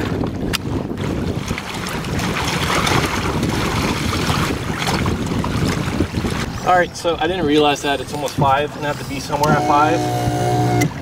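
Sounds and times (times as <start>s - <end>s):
small waves washing: 0.0s - 11.0s
wind buffeting microphone: 0.0s - 11.0s.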